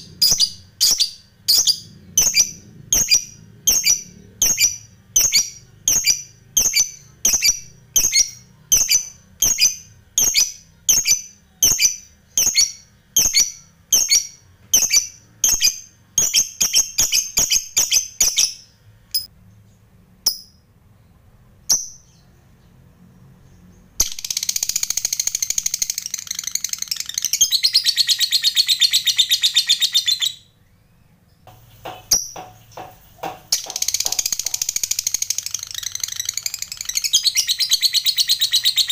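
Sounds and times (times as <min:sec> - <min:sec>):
bird rapid chattering trill: 0:00.0 - 0:19.3, 0:24.0 - 0:30.3, 0:31.5 - 0:38.9.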